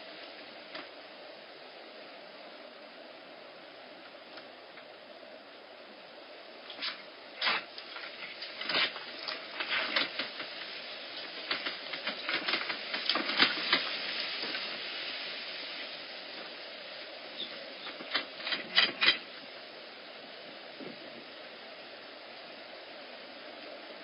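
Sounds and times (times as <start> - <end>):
microphone hiss: 0.0 - 24.0.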